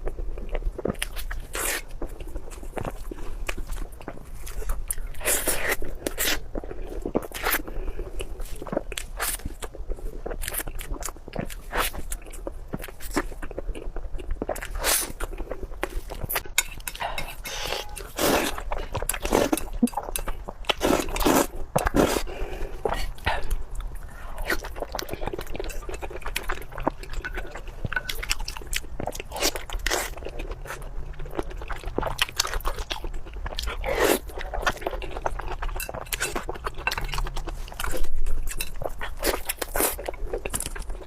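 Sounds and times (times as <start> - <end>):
person chewing food: 0.0 - 41.0.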